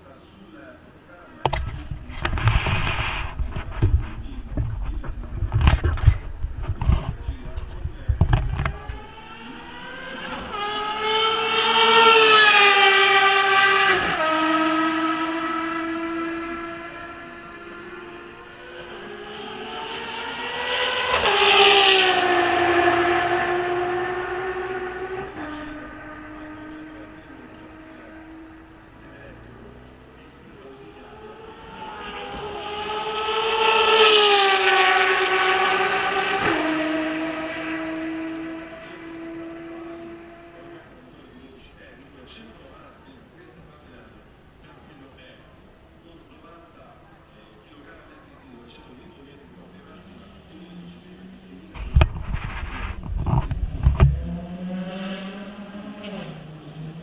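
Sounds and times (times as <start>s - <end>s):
race car passing at speed: 1.4s - 43.0s, 49.2s - 57.0s.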